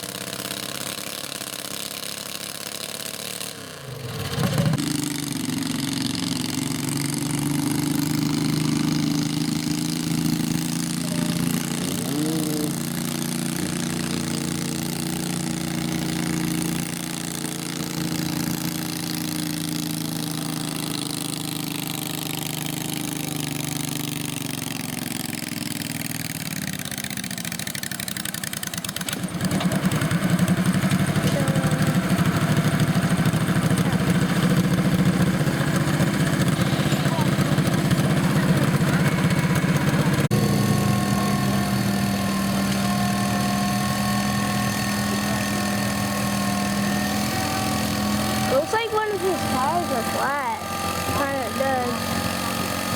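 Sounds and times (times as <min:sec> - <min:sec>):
louder engine close by: 0:00.0 - 0:52.9
small tractor engines running: 0:00.0 - 0:52.9.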